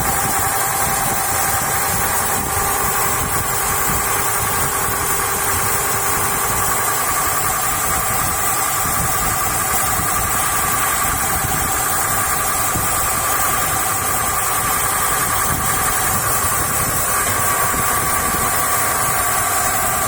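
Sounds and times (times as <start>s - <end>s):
engine running: 0.0s - 20.0s
gearbox whine: 0.0s - 20.0s.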